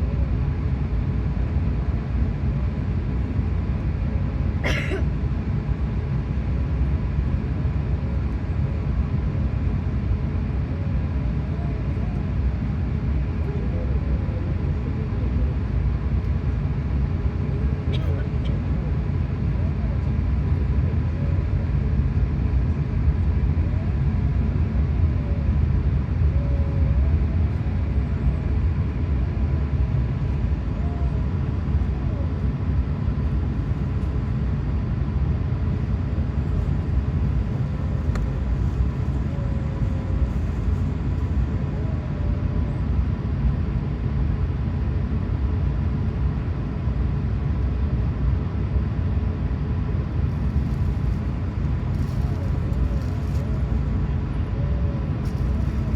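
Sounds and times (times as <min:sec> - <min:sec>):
aircraft engine rumble in cabin: 0:00.0 - 0:55.9
faint steady hum: 0:00.0 - 0:55.9.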